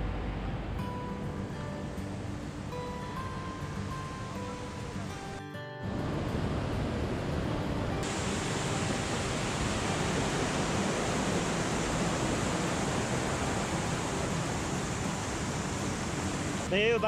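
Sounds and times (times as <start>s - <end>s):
river white water rushing: 1.0s - 17.0s.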